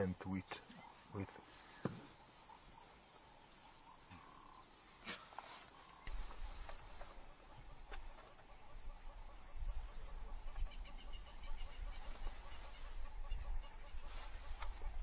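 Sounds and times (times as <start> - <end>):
insects trilling: 0.0 - 15.0
bird-like chirps: 0.3 - 15.0.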